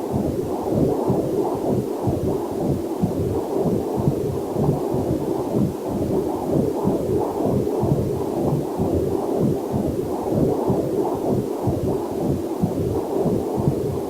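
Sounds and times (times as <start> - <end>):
fetal doppler heartbeat whooshing: 0.0 - 14.0.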